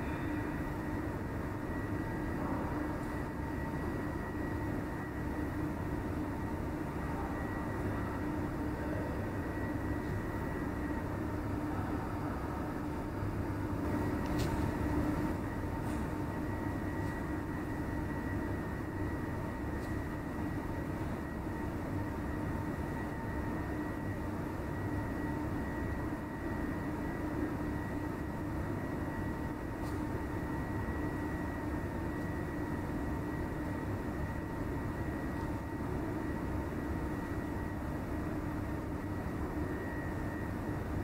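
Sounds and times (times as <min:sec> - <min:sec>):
droning hum and rumble: 0:00.0 - 0:41.0.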